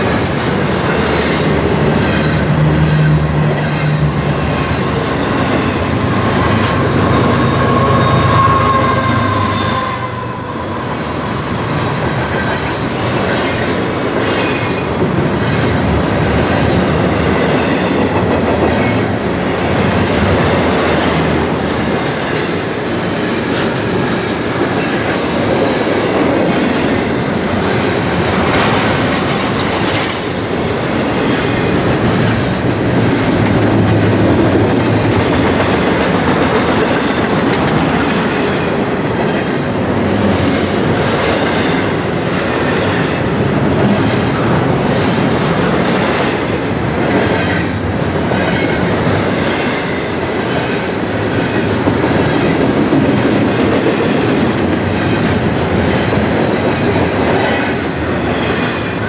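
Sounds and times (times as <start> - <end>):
railway cars rumbling: 0.0 - 59.0
wheels clicking over rail joints: 0.0 - 59.0.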